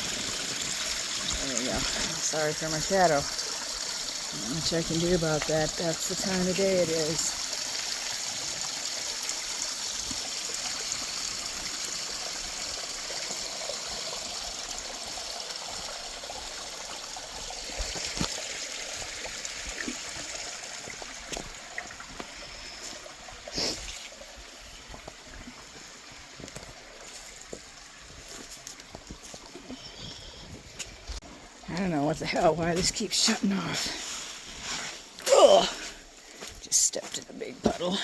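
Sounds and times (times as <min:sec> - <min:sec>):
creek water trickling over rock: 0:00.0 - 0:38.0.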